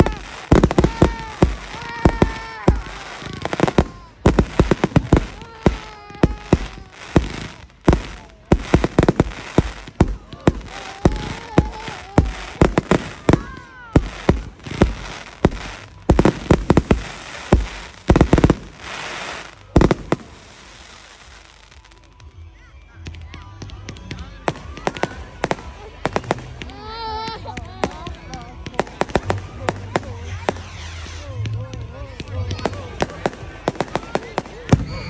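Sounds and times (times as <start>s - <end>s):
fireworks bangs: 0.0s - 22.2s, 23.0s - 35.0s
fireworks gliding tones: 0.0s - 22.3s, 23.0s - 35.0s.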